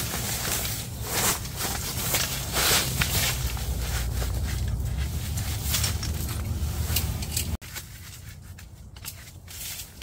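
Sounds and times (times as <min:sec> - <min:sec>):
fabric rustling: 0:00.0 - 0:10.0
metal poles clinking and rattling: 0:00.0 - 0:10.0.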